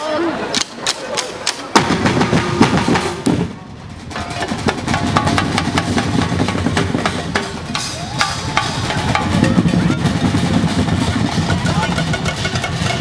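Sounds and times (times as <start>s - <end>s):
drums playing dance rhythm: 1.7s - 13.0s.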